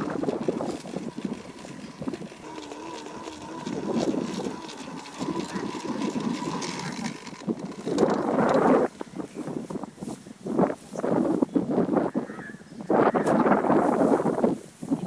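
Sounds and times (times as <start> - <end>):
dry grass rustling: 0.0 - 12.0, 13.2 - 15.0.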